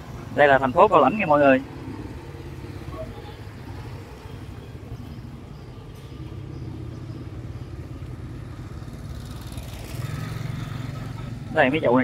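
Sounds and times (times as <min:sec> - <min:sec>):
street noise: 0:00.0 - 0:12.0
motorbike engine running: 0:01.6 - 0:12.0.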